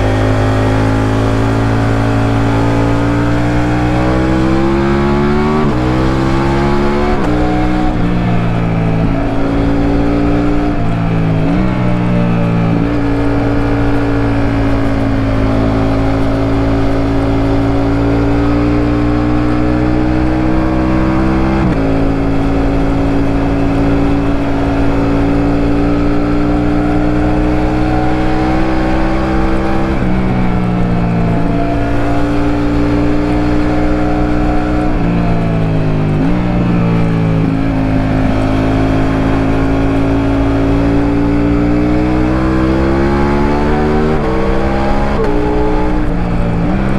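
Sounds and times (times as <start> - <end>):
motorcycle engine under way: 0.0 - 46.9.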